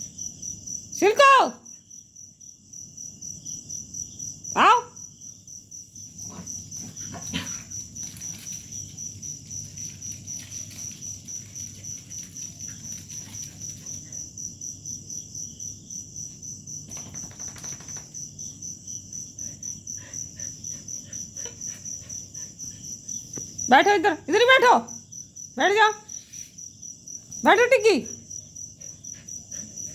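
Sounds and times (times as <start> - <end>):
crickets chirping: 0.0 - 29.9.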